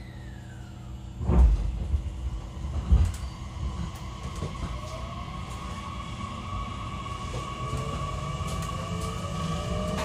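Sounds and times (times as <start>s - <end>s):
train running rumble: 0.1s - 10.0s.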